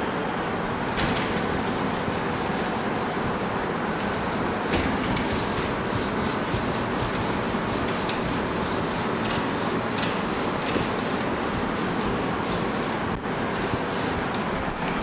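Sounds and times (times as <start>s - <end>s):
duster wiping whiteboard: 0.6s - 15.0s.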